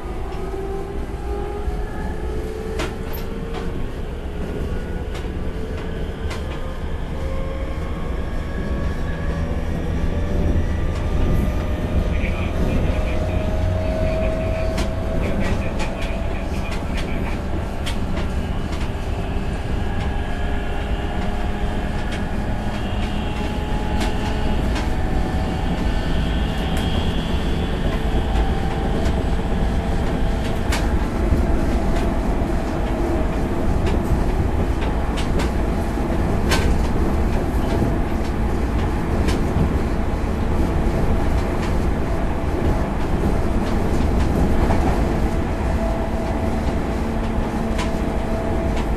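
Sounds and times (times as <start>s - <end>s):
train wheels rumbling on rail: 0.0s - 48.9s
rail joint clicks: 2.8s - 3.8s, 5.1s - 6.7s, 10.9s - 48.9s.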